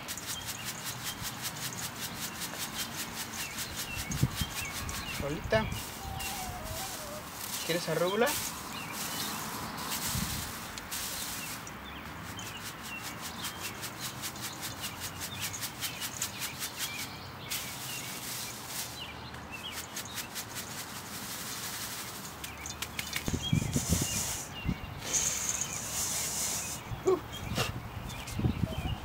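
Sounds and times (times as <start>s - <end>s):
seeds rattling in plastic colander: 0.0s - 26.8s
small birds chirping: 0.0s - 29.0s.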